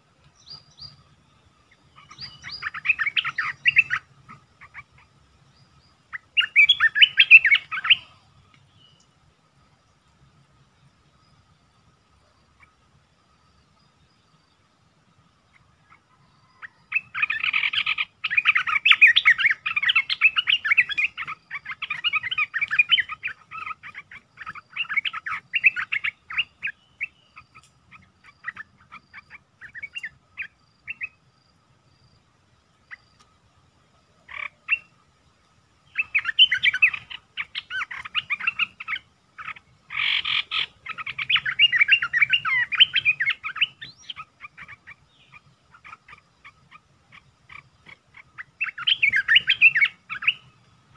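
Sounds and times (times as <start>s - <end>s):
birds chattering calls: 0.0s - 50.9s.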